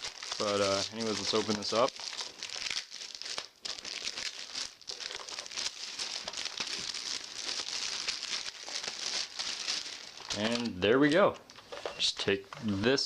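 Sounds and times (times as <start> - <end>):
packaging wrap crinkling: 0.0 - 11.2.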